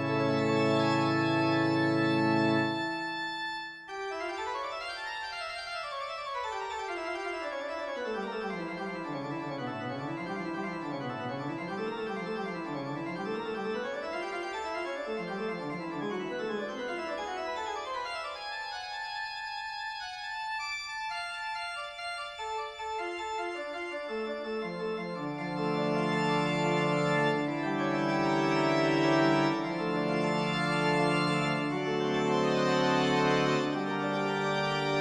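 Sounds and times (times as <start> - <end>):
organ-like keyboard music: 0.0 - 35.0.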